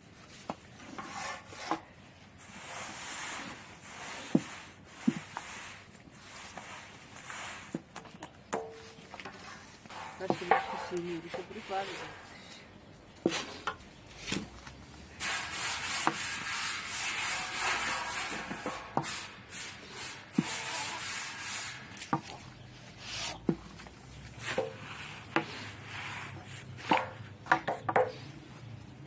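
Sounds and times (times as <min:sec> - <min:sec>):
straw broom sweeping griddle: 0:00.1 - 0:12.6, 0:13.2 - 0:28.7.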